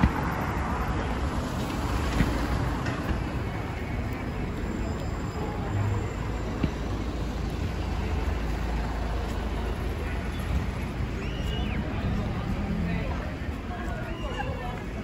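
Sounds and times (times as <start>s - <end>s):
passing cars rumble: 0.0s - 15.0s
voices of passers-by: 0.0s - 15.0s.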